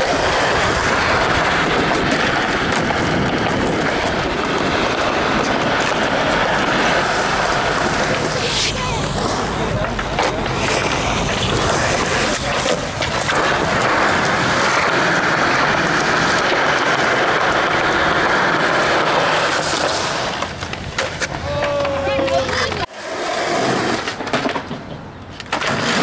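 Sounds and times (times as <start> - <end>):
skateboard clacks: 0.0 - 26.0
skateboard wheels rolling on concrete: 0.0 - 26.0.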